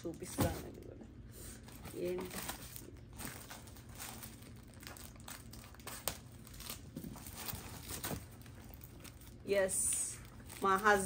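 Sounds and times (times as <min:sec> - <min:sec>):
plastic packets crinkling: 0:01.6 - 0:11.0.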